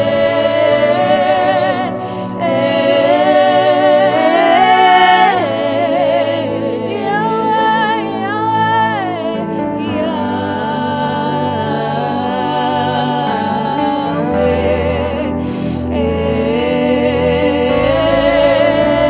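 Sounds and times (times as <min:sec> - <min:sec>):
solo voice singing: 0:00.0 - 0:19.0.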